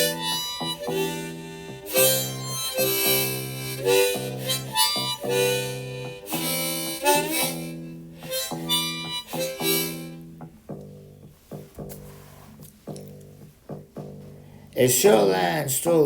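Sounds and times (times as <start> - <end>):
blues harmonica solo: 0.0 - 14.8
light musical accompaniment: 0.0 - 15.5.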